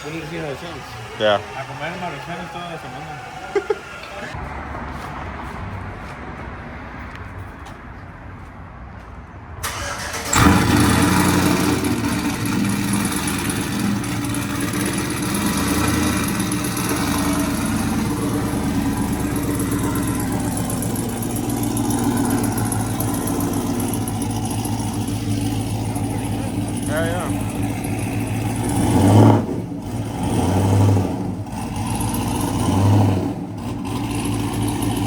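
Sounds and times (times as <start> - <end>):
car engine starting and idling: 0.0 - 4.4, 9.6 - 35.0.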